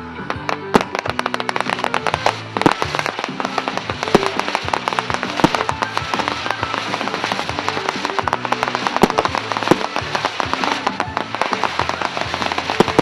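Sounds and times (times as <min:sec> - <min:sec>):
fireworks bangs and crackles: 0:00.0 - 0:13.0
music with held notes: 0:00.0 - 0:13.0.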